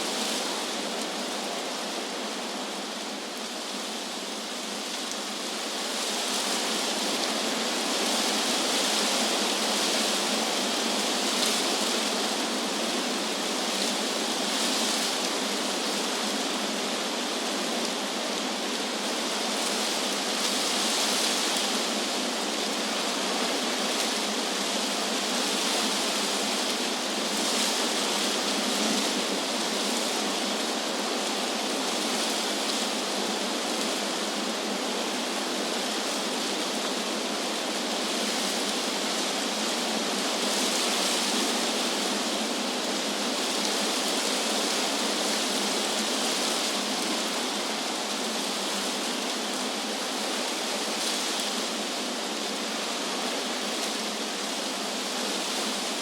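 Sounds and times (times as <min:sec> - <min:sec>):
wind rustling leaves: 0:00.0 - 0:56.0.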